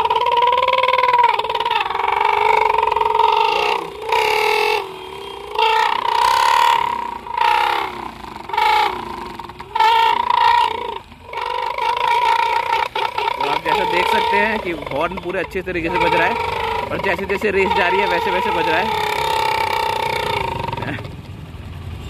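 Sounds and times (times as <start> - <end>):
buzzy exhaust horn blaring: 0.0 - 21.0.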